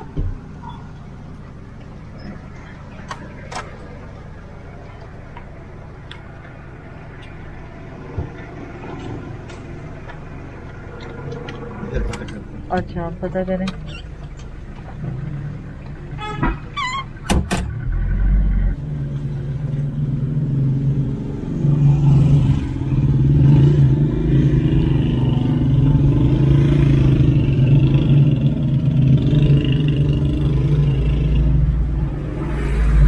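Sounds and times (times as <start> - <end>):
vehicle engine drone and road noise: 0.0 - 33.0.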